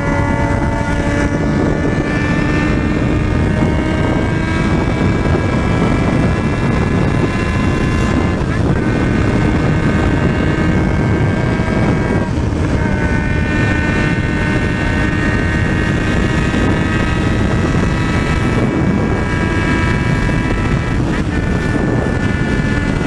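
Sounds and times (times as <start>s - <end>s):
motorcycle engine accelerating: 0.0s - 23.0s
wind rush over microphone: 0.0s - 23.0s.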